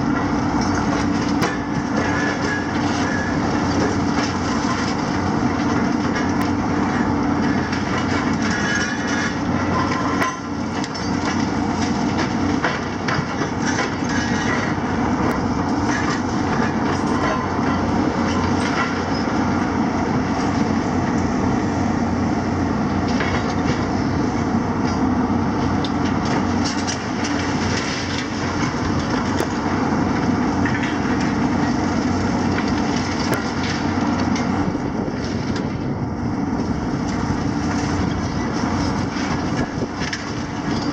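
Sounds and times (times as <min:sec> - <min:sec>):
excavator engines droning: 0:00.0 - 0:40.9
debris crackling and clattering: 0:00.1 - 0:19.3, 0:23.0 - 0:23.9, 0:25.8 - 0:35.8, 0:37.0 - 0:40.9.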